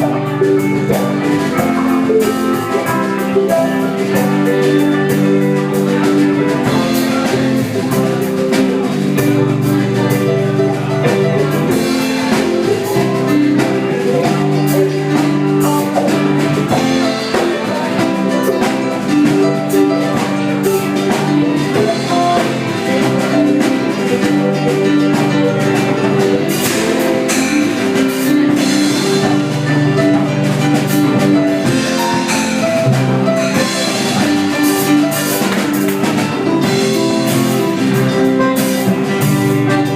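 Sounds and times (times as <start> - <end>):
upbeat guitar and drums music: 0.0 - 39.9.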